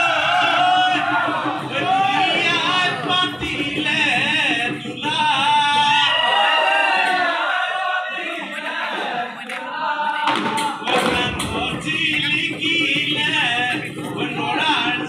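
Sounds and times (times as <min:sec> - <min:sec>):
drum beats: 0:00.0 - 0:15.0
men singing together: 0:00.0 - 0:15.0.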